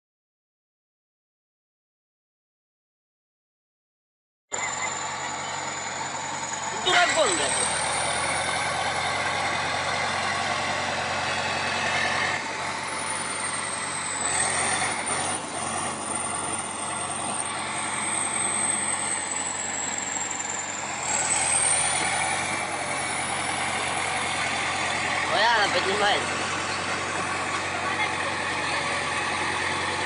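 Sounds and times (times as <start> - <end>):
heavy machine engine running: 4.5 - 30.0
high-pitched whine: 4.5 - 30.0.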